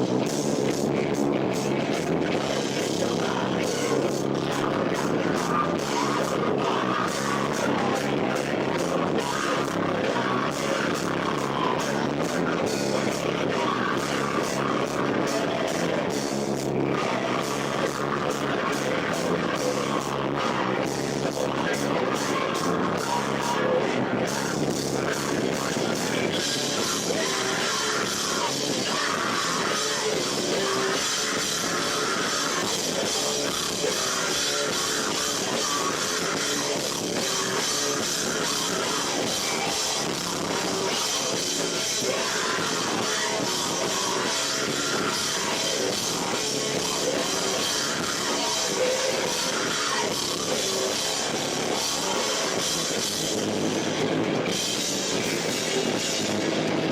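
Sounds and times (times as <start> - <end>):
live rock band playing loudly: 0.0 - 56.9.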